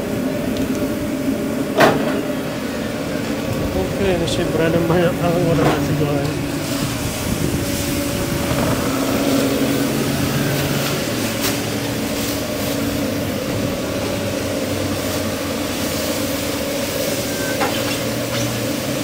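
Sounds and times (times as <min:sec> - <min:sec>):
mechanical hum of equipment: 0:00.0 - 0:19.0.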